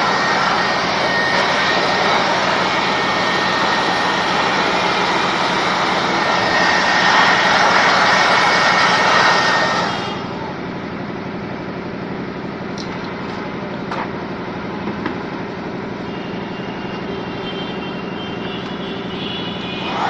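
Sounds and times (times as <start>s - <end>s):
mechanical running noise: 0.0s - 20.0s.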